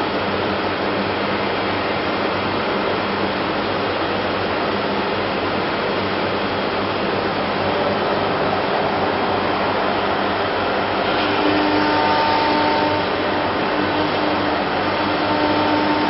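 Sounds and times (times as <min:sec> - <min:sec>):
machine hiss and hum: 0:00.0 - 0:16.0.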